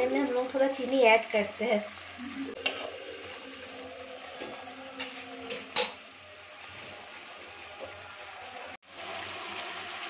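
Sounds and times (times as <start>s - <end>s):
chicken sizzling in pan: 0.0s - 10.0s.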